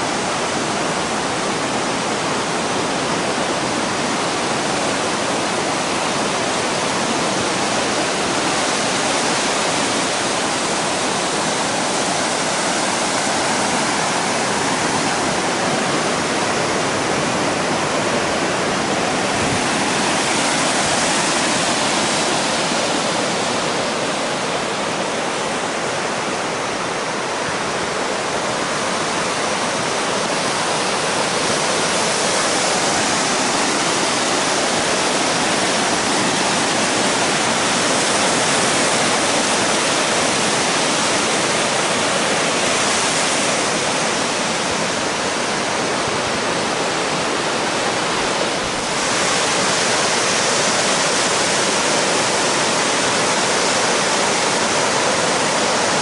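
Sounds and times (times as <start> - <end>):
ocean surf breaking on beach: 0.0 - 56.0.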